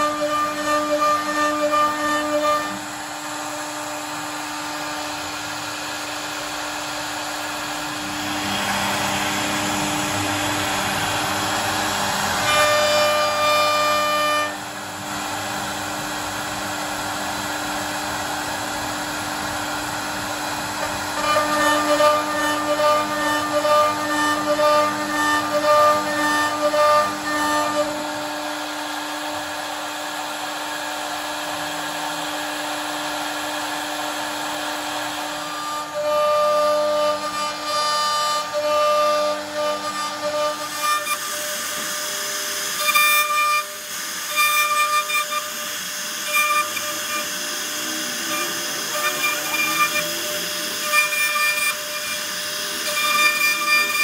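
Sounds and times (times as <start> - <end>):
bit cutting wood: 0.0 - 54.0
router spindle whine: 0.0 - 54.0.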